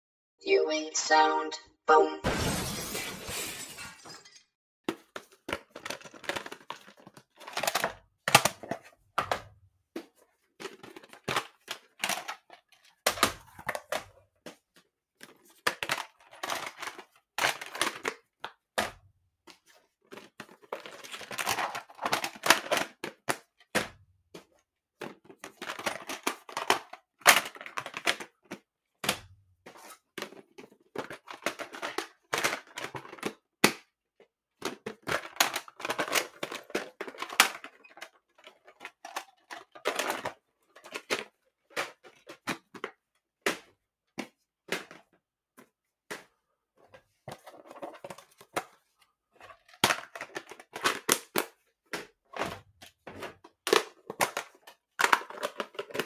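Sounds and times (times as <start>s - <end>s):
plastic cases clicking and snapping: 4.9s - 56.0s.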